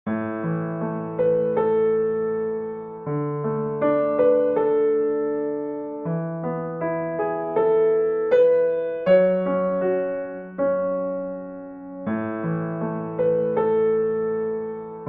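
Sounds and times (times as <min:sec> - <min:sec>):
slow electric piano chords: 0:00.1 - 0:15.0.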